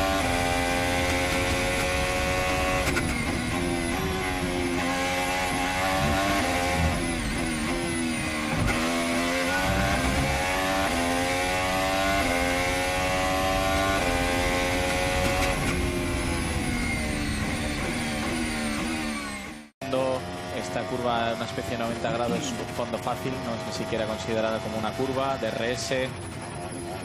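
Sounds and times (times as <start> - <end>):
racing car engine at high revs: 0.0 - 27.0.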